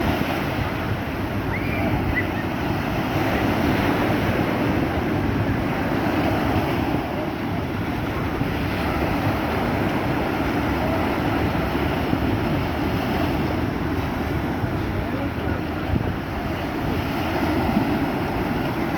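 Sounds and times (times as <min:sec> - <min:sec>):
sea surf washing on shore: 0:00.0 - 0:18.9
wind on microphone: 0:00.0 - 0:18.9.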